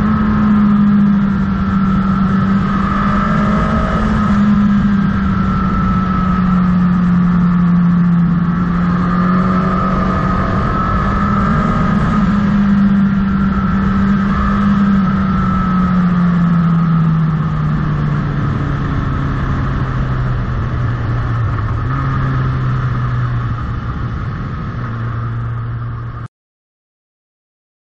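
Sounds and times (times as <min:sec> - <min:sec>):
motorcycle engine running: 0:00.0 - 0:26.3.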